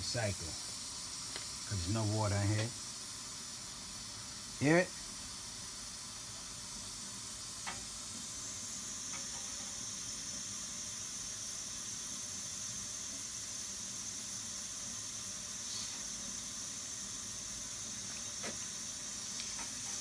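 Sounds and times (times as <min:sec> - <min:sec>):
air hissing from pipe: 0:00.0 - 0:20.0.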